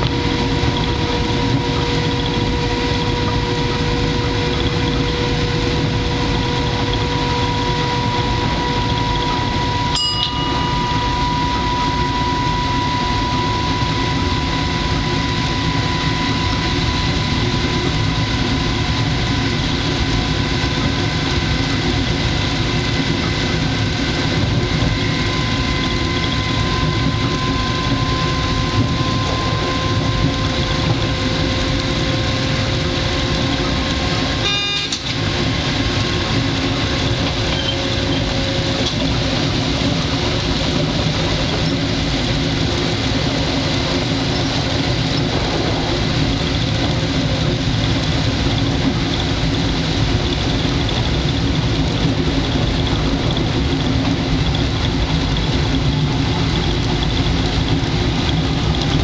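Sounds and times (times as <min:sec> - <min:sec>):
thin steady whine: 0:00.0 - 0:59.0
train motors and wheels rumbling: 0:00.0 - 0:59.0.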